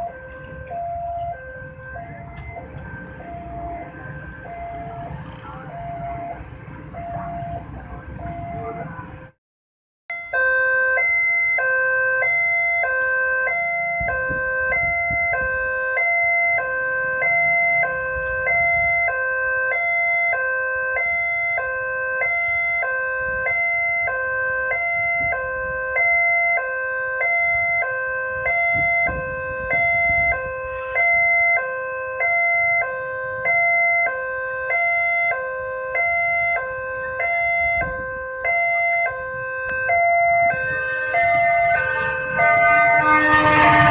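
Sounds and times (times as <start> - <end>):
two-tone crossing alarm: 0.0 - 9.4, 10.1 - 43.9.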